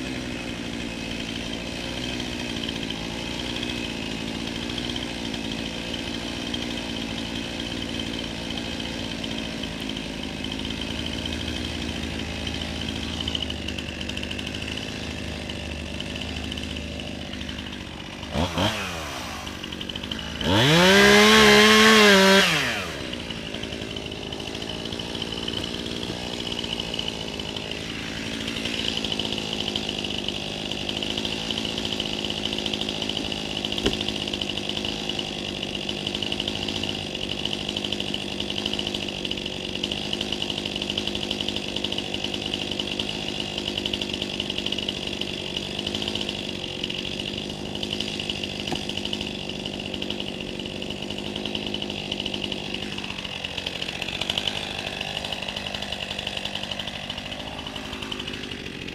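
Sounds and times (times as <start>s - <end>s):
chainsaw idling and revving: 0.0s - 58.9s.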